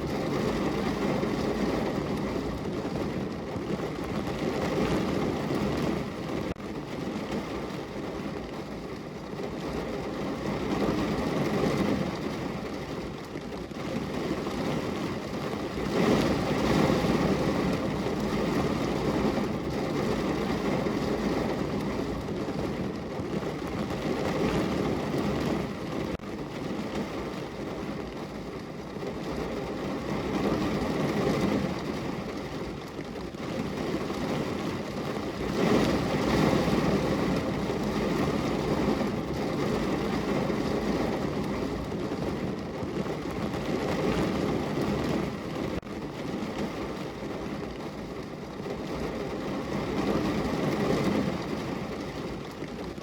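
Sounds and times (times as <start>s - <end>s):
heavy rain on a car roof: 0.0s - 53.0s.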